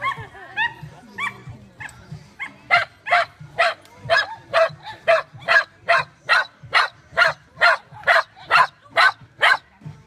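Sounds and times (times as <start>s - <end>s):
dog barking: 0.0s - 9.7s.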